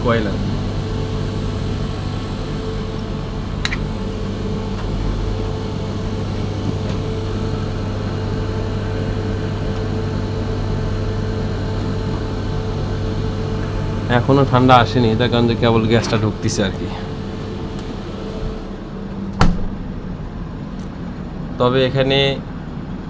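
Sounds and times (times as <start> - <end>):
refrigerator compressor humming: 0.0 - 23.0.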